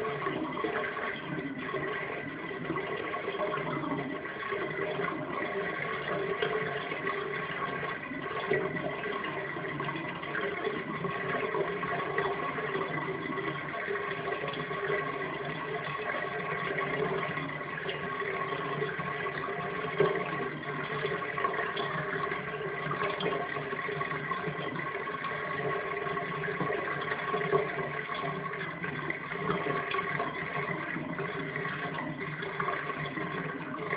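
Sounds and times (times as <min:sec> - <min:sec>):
water rushing down drain: 0:00.0 - 0:33.9.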